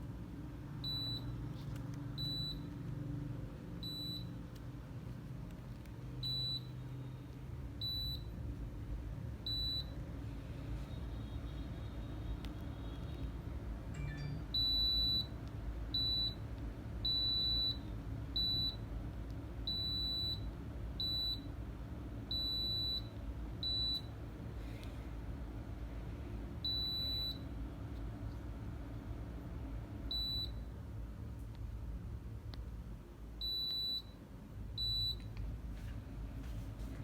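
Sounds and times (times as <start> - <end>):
air conditioner beeping: 0.0 - 31.5, 32.2 - 37.0.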